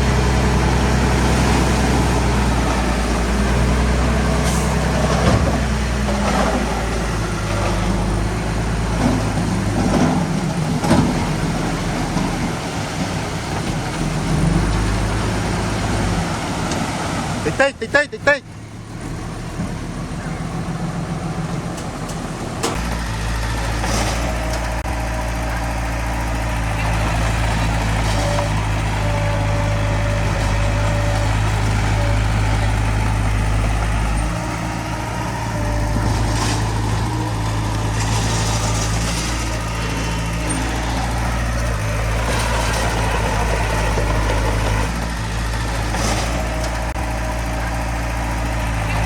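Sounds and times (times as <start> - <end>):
diesel machinery engine running: 0.0 - 49.0.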